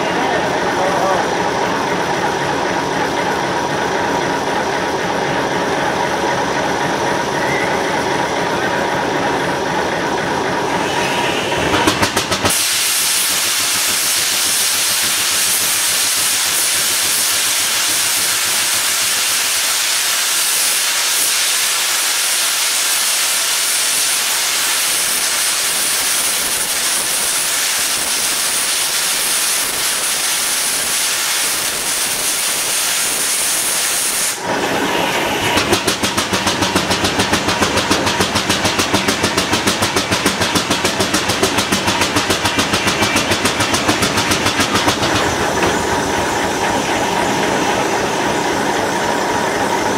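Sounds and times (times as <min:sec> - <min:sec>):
steam engine running: 0:00.0 - 0:49.9
steam hissing: 0:03.6 - 0:49.9.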